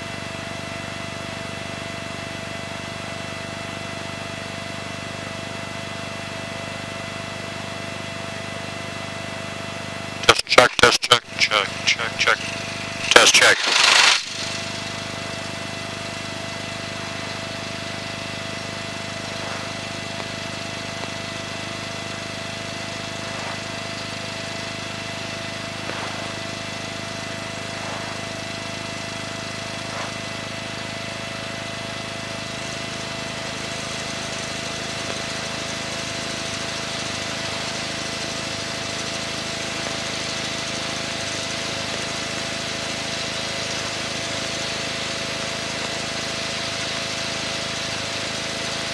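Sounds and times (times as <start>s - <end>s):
aircraft engine and propeller drone: 0.0s - 48.9s.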